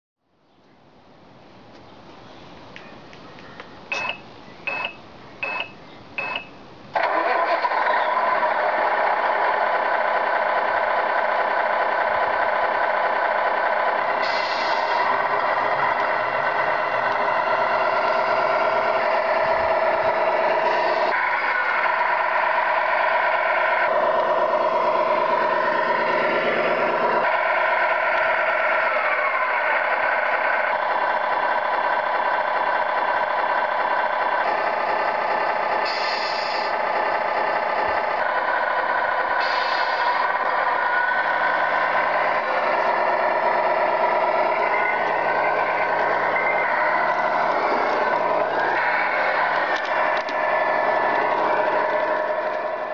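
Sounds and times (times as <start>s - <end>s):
simulated truck engine: 0.3s - 52.9s.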